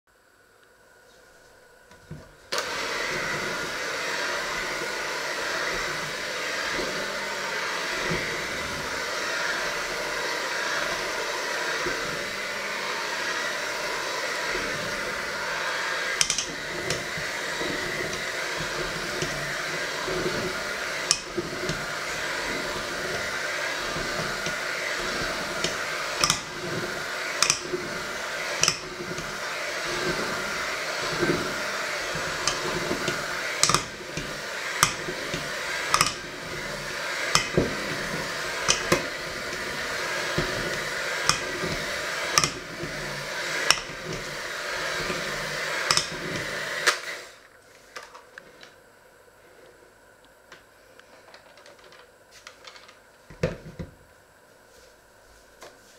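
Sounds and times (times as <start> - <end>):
electric hand mixer running: 1.7 - 47.5.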